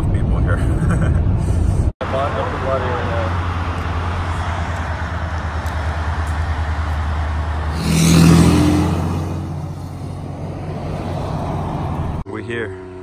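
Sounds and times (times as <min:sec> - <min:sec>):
vehicle road noise on highway: 0:00.0 - 0:13.0
loud rush of passing vehicle: 0:02.0 - 0:13.0.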